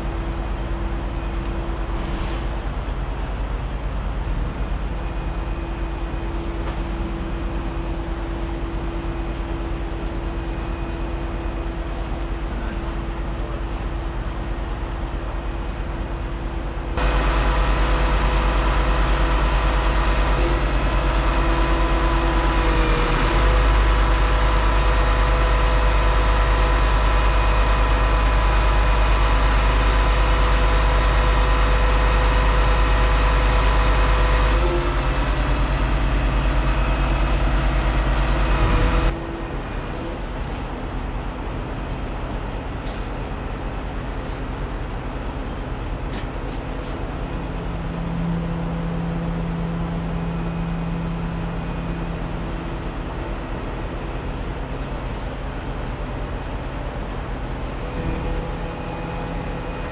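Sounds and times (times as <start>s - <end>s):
diesel truck engine running: 2.9s - 59.9s.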